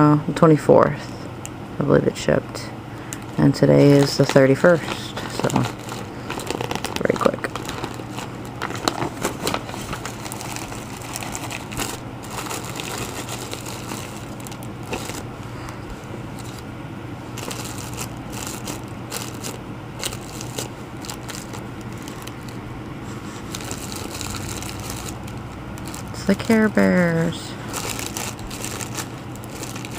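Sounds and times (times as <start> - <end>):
steady low hum: 0.0 - 29.9
plastic packaging crinkling: 3.1 - 16.7, 17.3 - 29.9.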